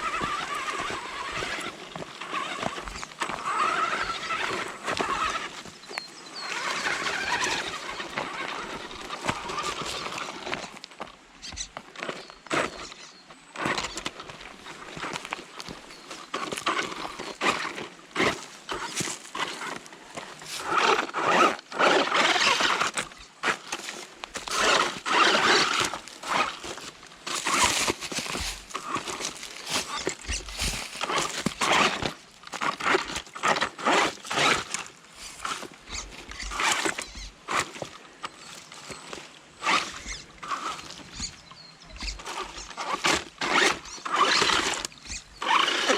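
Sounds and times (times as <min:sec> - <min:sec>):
toy car motor whining: 0:00.0 - 0:10.7, 0:11.4 - 0:45.9
wheels scrabbling: 0:00.0 - 0:45.9.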